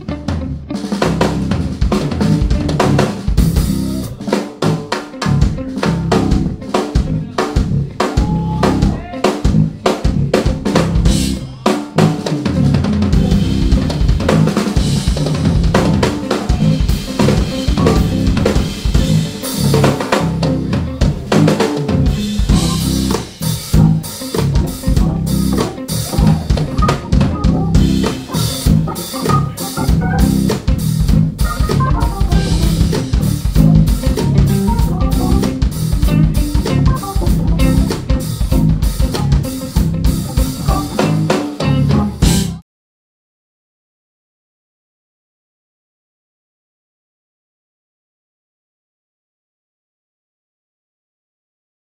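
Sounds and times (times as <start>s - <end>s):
drum kit snare and kick hits: 0.0s - 42.6s
live band playing: 0.0s - 42.6s.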